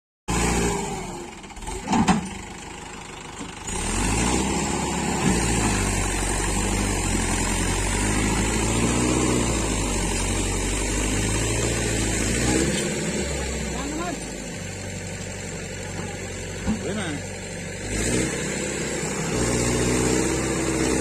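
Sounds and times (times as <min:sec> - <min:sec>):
tractor engine revving: 0:00.3 - 0:21.0.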